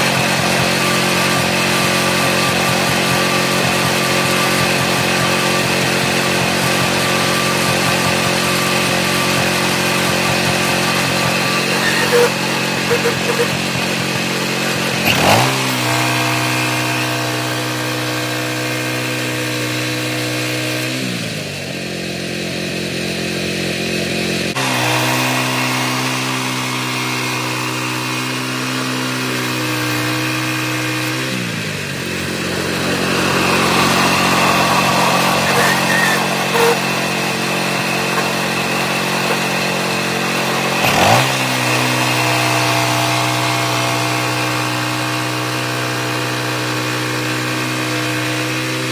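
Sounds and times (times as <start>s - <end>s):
gasoline engine running: 0.0s - 19.2s, 21.1s - 48.9s
band saw cutting log: 0.0s - 48.9s.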